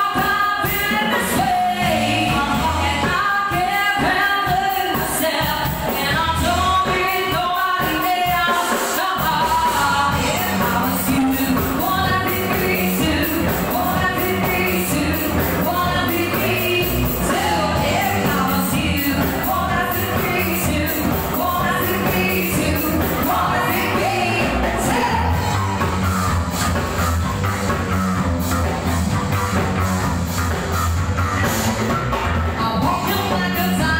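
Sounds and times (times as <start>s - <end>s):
amplified singing: 0.0s - 27.1s, 32.6s - 33.9s
drum kit beat: 0.0s - 33.9s
electric guitars: 0.0s - 33.9s.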